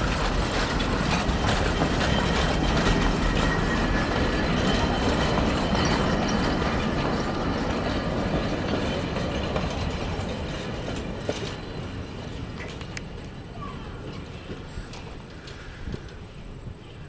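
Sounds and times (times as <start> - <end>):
train wheels clicking on rails: 0.0 - 17.0.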